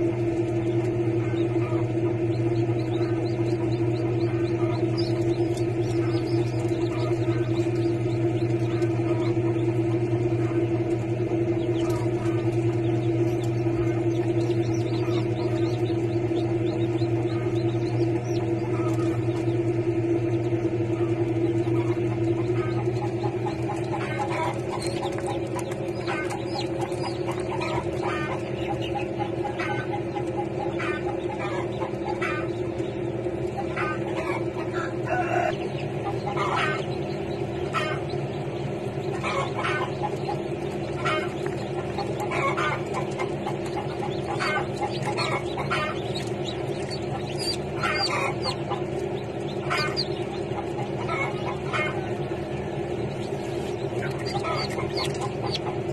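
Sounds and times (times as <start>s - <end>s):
chicks peeping: 0.0s - 55.9s
steady low hum: 0.0s - 55.9s.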